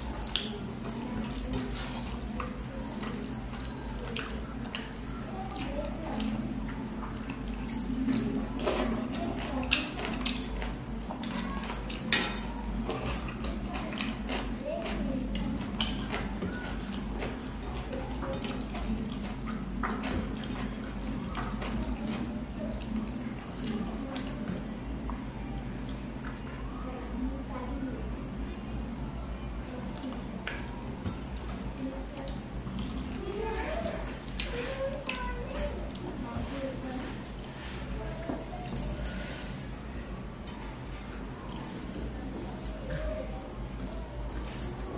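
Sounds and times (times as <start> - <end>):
eating sounds: 0.0 - 26.5, 29.8 - 44.9.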